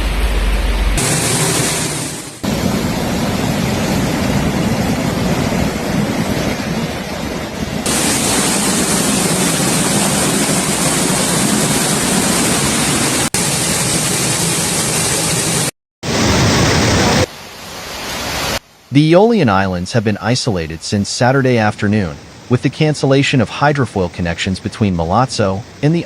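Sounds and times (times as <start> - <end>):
water rushing loudly: 0.0 - 26.0.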